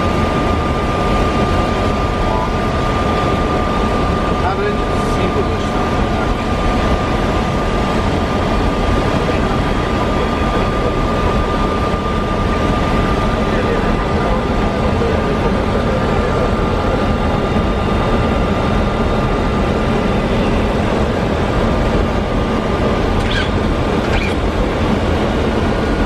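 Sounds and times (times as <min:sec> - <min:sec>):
airflow and engine noise: 0:00.0 - 0:26.0.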